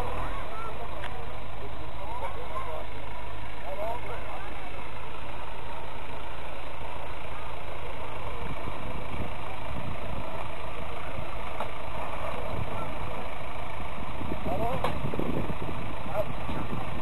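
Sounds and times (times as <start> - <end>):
off-road vehicle engine at low revs: 0.0 - 17.0.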